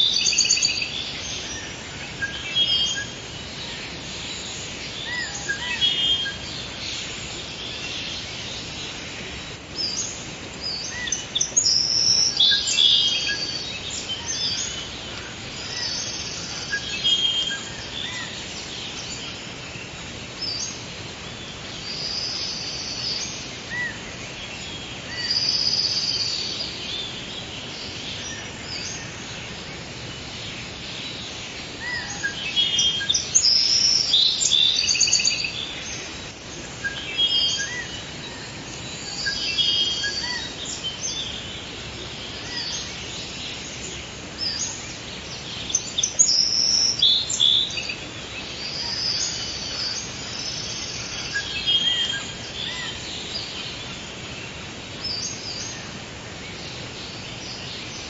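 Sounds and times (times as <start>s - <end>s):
birds singing and chirping: 0.0s - 58.0s
steady background hiss: 0.0s - 58.0s.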